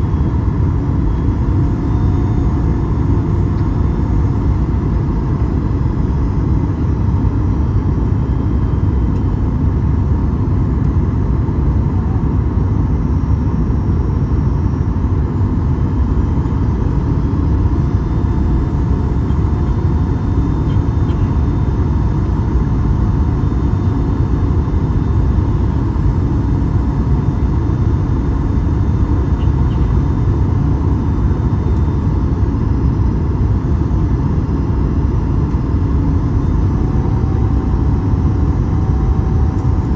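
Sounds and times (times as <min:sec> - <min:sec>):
airplane cabin rumble: 0:00.0 - 0:39.9
faint steady hum: 0:00.0 - 0:39.9.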